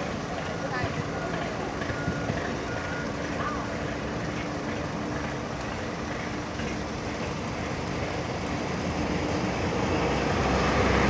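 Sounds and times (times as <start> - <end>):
diesel machinery engine humming: 0.0 - 11.0.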